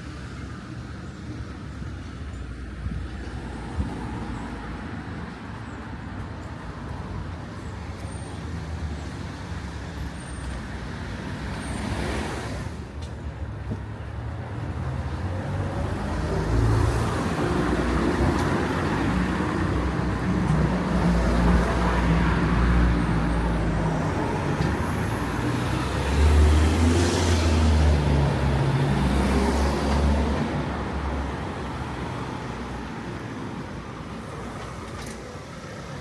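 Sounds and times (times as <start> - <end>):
road traffic passing: 0.0 - 36.0.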